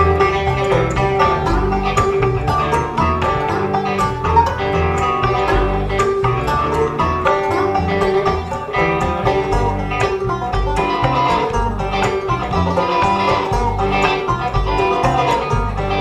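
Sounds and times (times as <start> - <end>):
banjo picking: 0.0 - 16.0
electric guitar: 0.0 - 16.0
upright bass plucked: 0.0 - 16.0.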